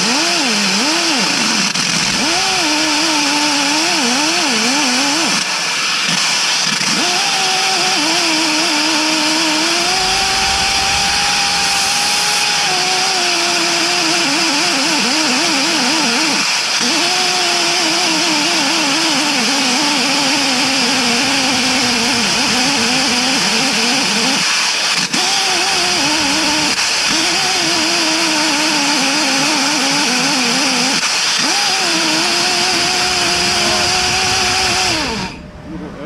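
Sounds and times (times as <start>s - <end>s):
engine running fast: 0.0s - 36.0s.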